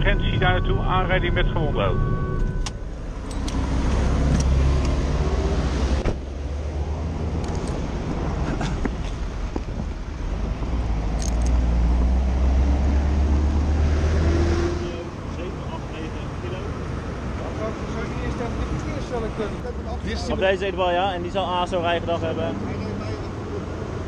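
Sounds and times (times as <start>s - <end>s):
van driving at speed: 0.0s - 24.0s.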